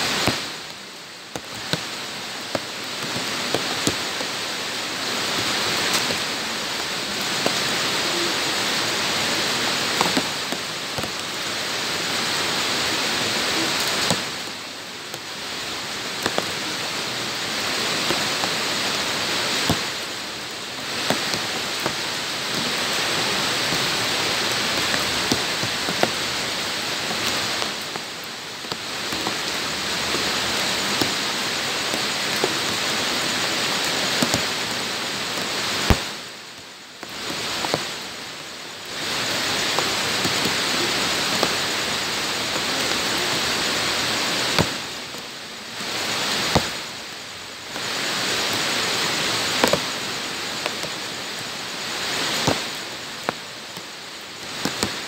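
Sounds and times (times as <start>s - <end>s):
rain hissing on ground: 0.0s - 55.0s
raindrops splatting: 0.0s - 55.0s.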